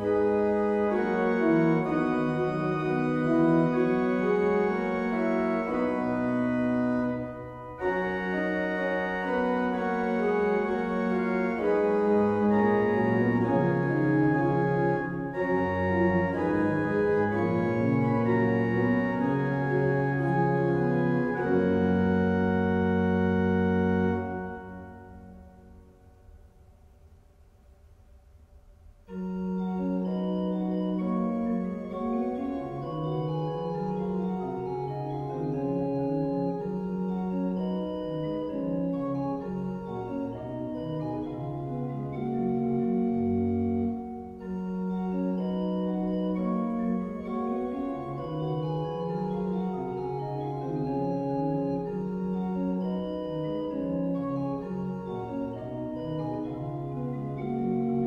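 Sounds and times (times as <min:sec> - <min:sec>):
church pipe organ playing: 0:00.0 - 0:26.2, 0:29.1 - 0:58.0.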